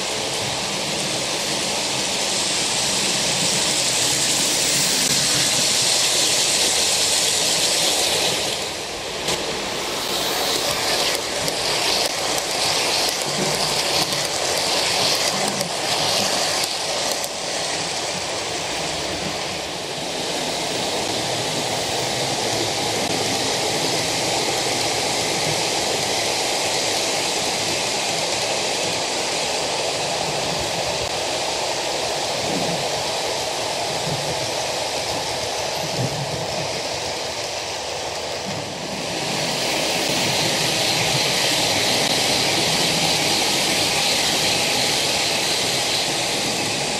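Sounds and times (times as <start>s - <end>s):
model train wheels on rails: 0.0s - 46.9s.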